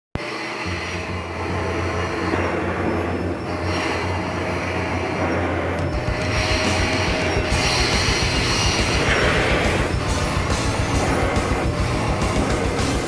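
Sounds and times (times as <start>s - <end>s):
vacuum cleaner running: 0.2s - 13.0s.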